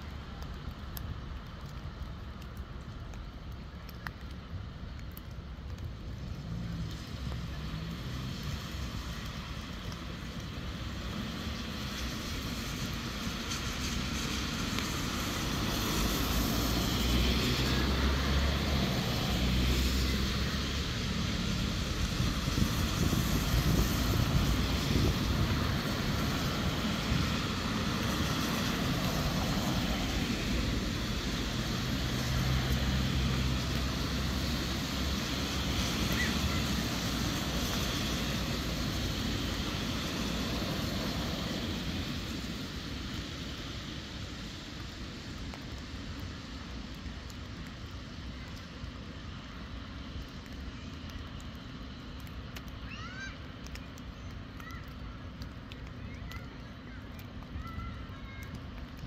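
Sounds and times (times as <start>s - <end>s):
low engine noise: 0.0s - 59.0s
tyres hissing on wet road: 0.0s - 59.0s.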